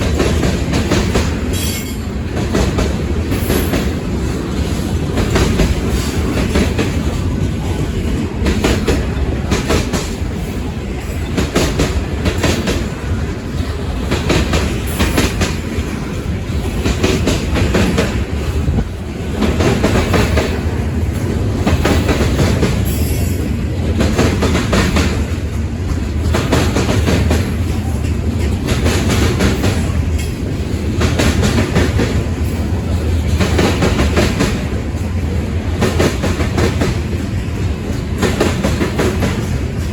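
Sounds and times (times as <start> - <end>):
low rumble of freight cars: 0.0 - 39.9
train wheels clacking over rail joints: 0.0 - 39.9.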